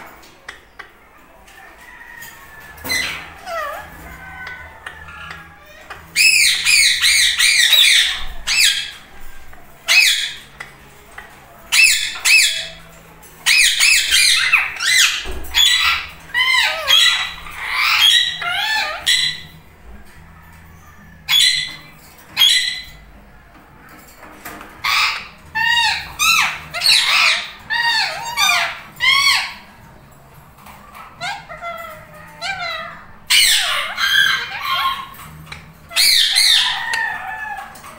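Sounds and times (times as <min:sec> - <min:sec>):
parakeets squawking: 0:01.7 - 0:23.2, 0:23.9 - 0:30.0, 0:30.6 - 0:37.9.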